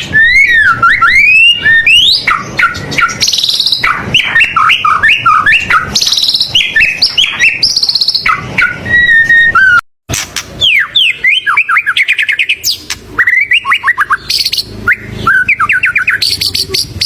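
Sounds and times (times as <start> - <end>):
bird singing whistles and trills: 0.0 - 9.8, 10.6 - 17.0.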